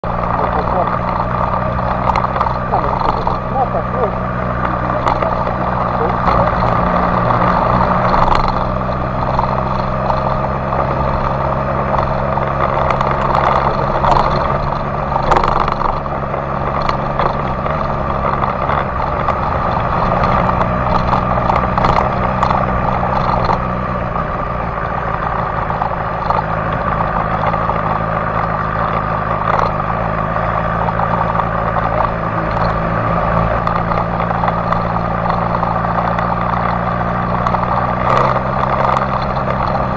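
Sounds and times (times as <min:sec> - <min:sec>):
motorcycle engine running: 0:00.0 - 0:39.9
scattered clicks and knocks: 0:00.0 - 0:39.9.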